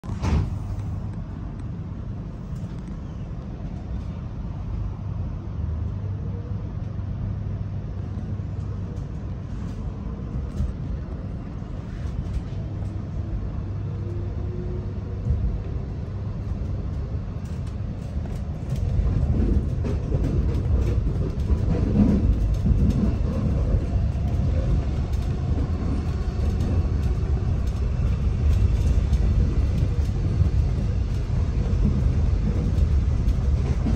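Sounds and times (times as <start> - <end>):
electric train rumbling: 0.0 - 33.9.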